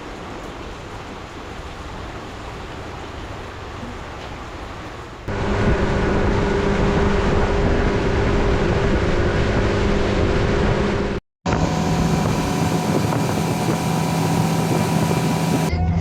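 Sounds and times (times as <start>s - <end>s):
rushing wind: 0.0s - 15.7s
water noise: 0.0s - 15.7s
boat engine running: 2.2s - 15.7s.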